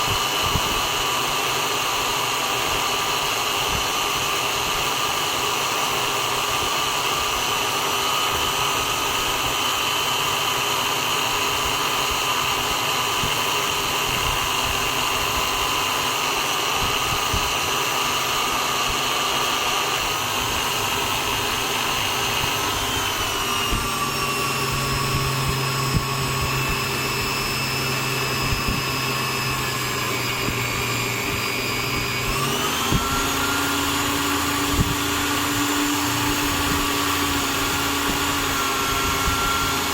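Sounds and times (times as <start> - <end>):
electric drill motor whining: 0.0 - 39.9.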